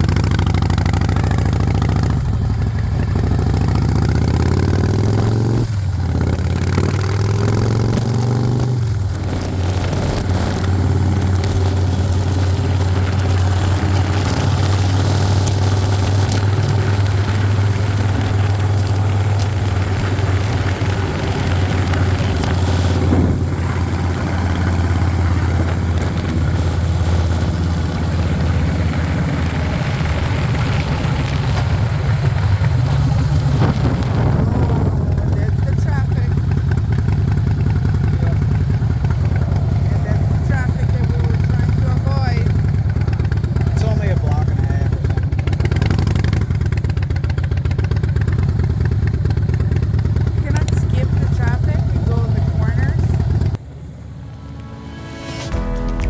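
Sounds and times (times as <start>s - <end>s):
motorcycle engine running: 0.0s - 54.4s.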